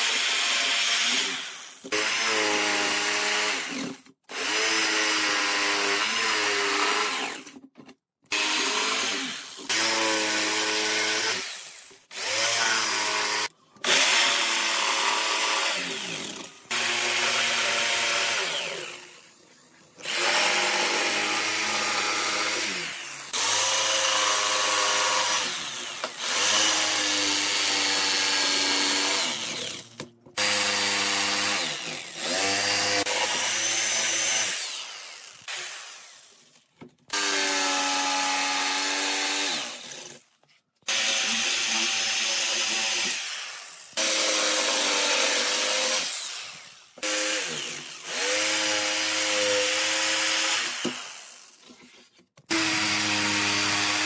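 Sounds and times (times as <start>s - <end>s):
electric jigsaw cutting wood: 0.0s - 7.7s, 8.3s - 54.0s.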